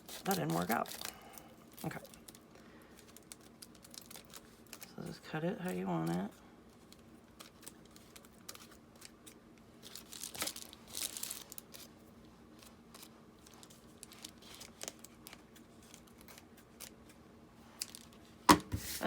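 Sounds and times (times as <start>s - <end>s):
mailer crinkling and rustling: 0.0s - 18.3s.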